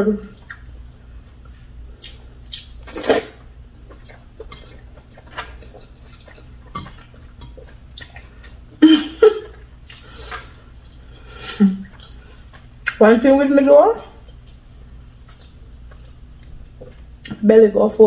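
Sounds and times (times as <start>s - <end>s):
chewing: 0.3s - 8.8s, 9.4s - 13.0s, 14.2s - 17.4s.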